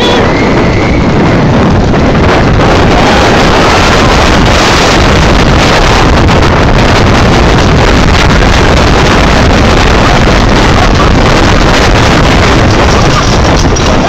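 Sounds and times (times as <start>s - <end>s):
roller coaster rumbling on track: 0.0s - 14.0s
wind buffeting microphone: 0.0s - 14.0s.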